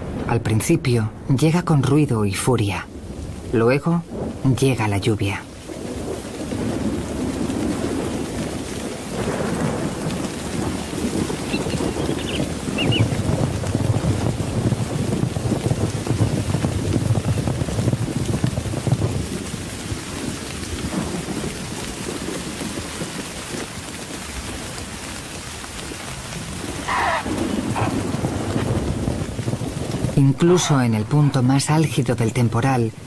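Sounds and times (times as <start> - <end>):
deep thunder rumbling: 0.0 - 33.0
heavy rain: 0.0 - 33.0.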